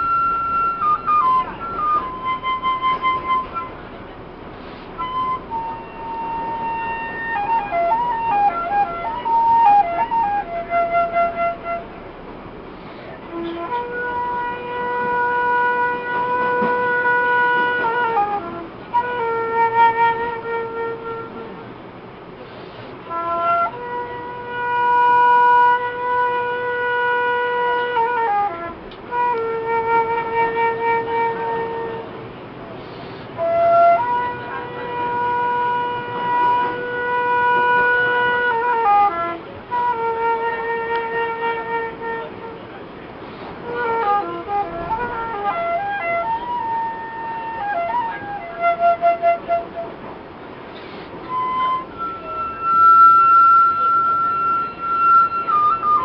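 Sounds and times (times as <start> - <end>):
wind instrument playing slow tune: 0.0 - 56.0.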